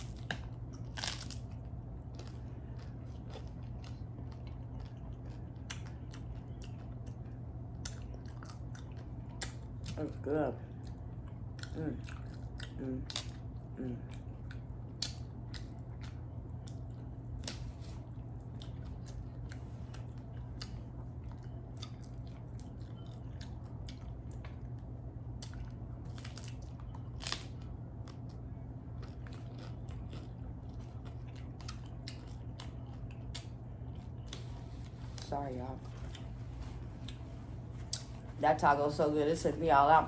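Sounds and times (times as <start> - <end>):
chewing crunchy taco: 0.0 - 38.4
steady low hum: 0.0 - 40.0.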